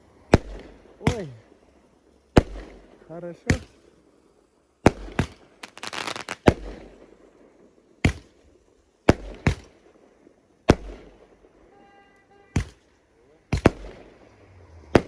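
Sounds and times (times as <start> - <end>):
fireworks bangs: 0.0 - 4.1, 4.8 - 15.0
fireworks crackling: 0.0 - 15.0.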